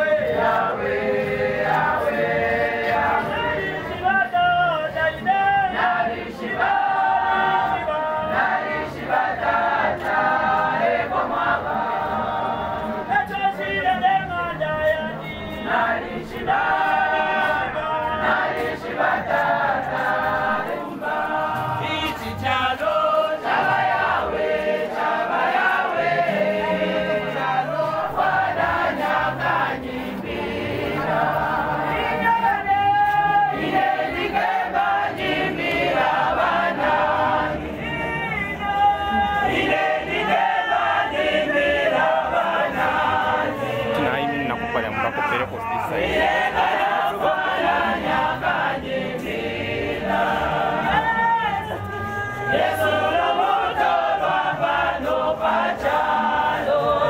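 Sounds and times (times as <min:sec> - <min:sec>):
women's choir singing a hymn: 0:00.0 - 0:57.0.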